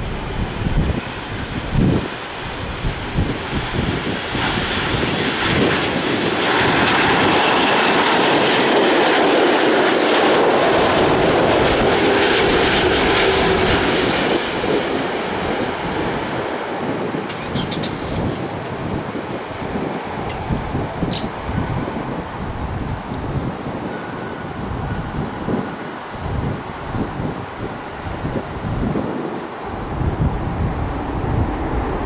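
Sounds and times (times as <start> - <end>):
jet engines roaring: 0.0 - 32.0
wind buffeting microphone: 0.0 - 32.0.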